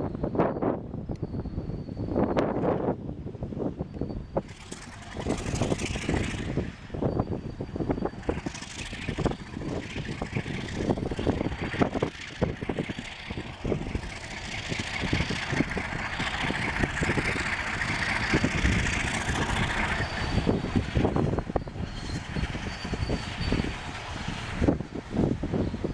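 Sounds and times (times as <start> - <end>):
train cars rumbling and knocking: 0.0 - 25.9.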